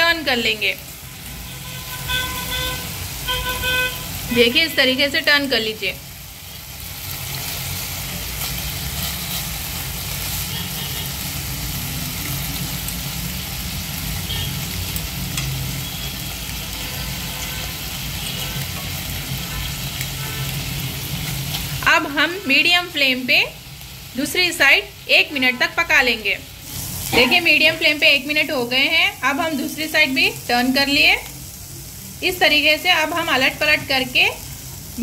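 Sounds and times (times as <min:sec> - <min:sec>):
chicken sizzling in frying pan: 0:00.0 - 0:35.0.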